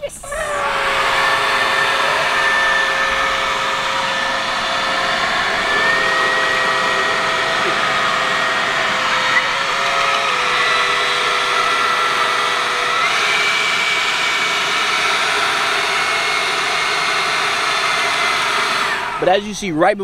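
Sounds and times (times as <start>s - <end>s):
leaf blower running: 0.0s - 19.9s.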